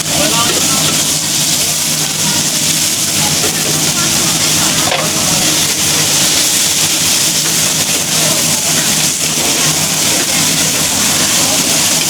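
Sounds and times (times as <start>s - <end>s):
background voices: 0.0s - 12.0s
food sizzling in hot oil: 0.0s - 12.0s.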